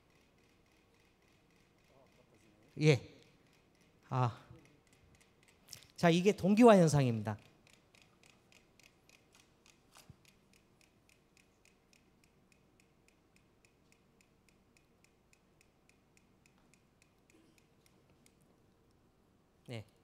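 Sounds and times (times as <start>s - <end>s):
metronomes ticking: 0.0s - 2.8s, 3.4s - 18.0s.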